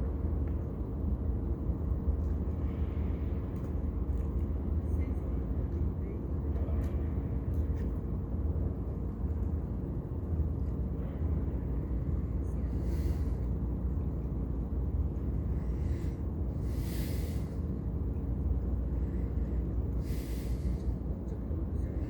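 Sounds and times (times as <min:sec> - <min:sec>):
mechanical rumble and hum: 0:00.0 - 0:22.0.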